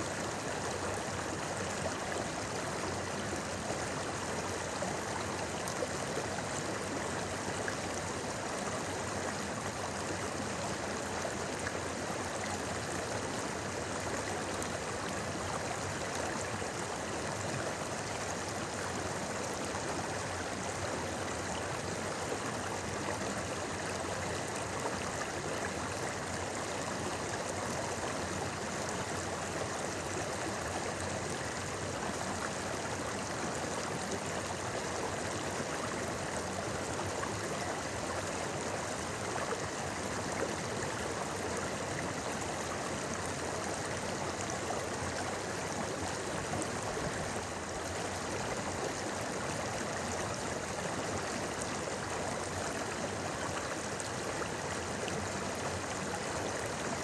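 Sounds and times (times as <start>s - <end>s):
river babbling over rocks: 0.1s - 57.0s.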